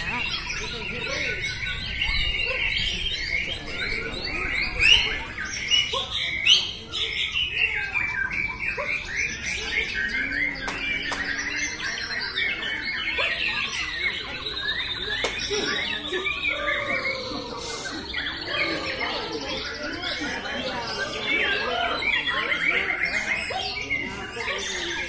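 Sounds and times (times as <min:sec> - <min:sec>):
birds whistling and chirping: 0:00.0 - 0:25.0.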